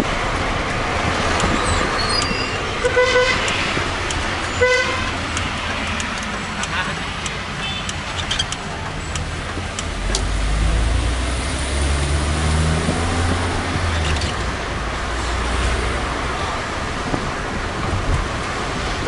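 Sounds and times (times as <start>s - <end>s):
car engine hum: 0.0s - 19.0s
road noise inside car: 0.0s - 19.0s.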